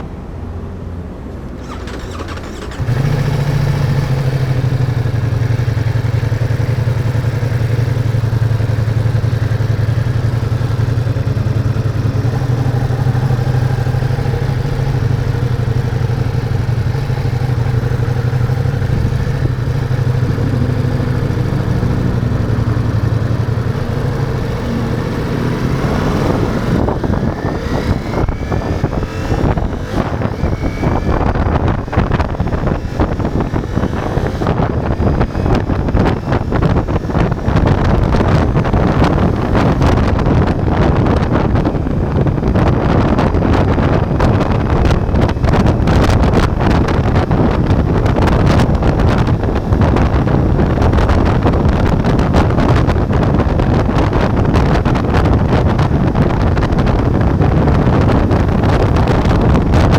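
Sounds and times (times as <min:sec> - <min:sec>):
motorcycle engine starting and idling: 0:01.2 - 0:59.9
motorcycle engine revving: 0:01.5 - 0:59.9.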